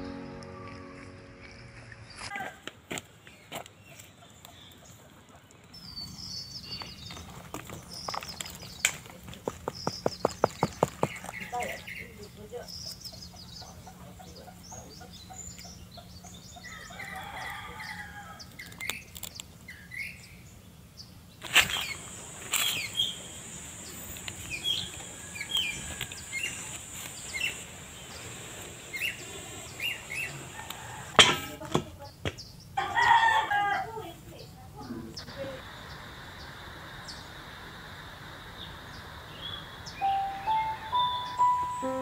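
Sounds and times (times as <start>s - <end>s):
birds chirping: 0.8s - 31.2s, 34.3s - 42.0s.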